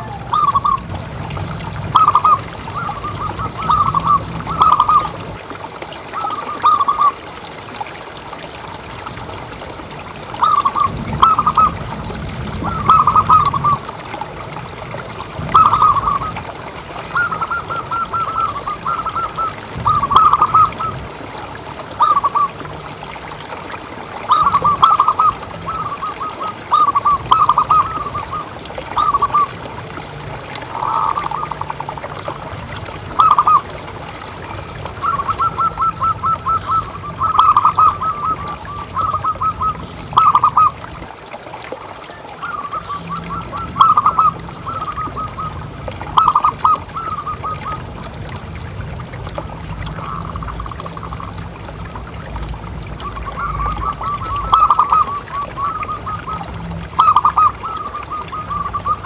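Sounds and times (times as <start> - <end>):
doves cooing: 0.0 - 7.3, 10.4 - 23.1, 24.1 - 41.0, 42.0 - 48.1, 49.5 - 59.0.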